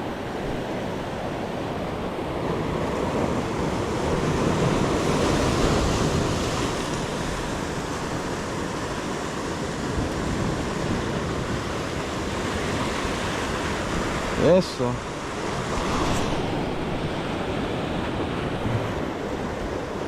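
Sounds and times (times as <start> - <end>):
ocean surf washing on shore: 0.0 - 20.0.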